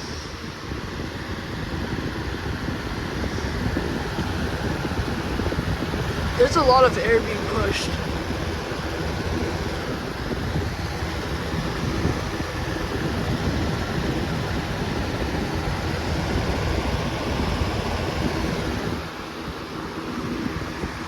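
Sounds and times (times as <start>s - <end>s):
fan wind buffeting microphone: 0.0s - 21.0s.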